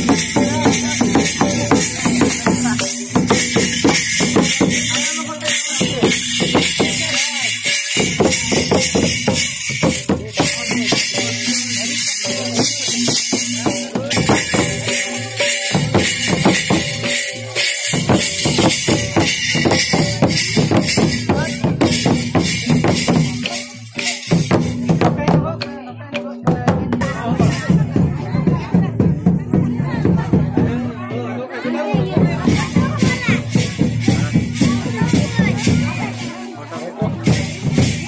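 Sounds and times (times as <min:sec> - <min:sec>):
metal hand cymbals: 0:00.0 - 0:28.8, 0:32.0 - 0:38.0
large hand drum beating: 0:00.0 - 0:38.0.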